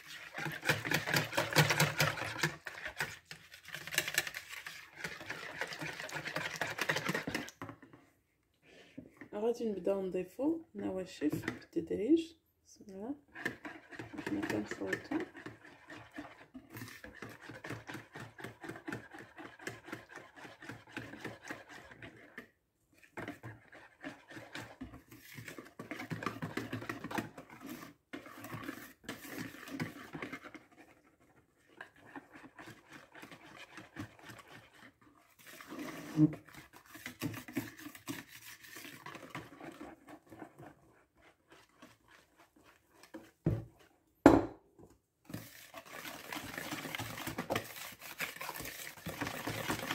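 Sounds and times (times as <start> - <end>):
whisk scraping in a bowl: 0.0 - 9.7, 10.9 - 11.8, 13.1 - 44.0, 45.2 - 49.9.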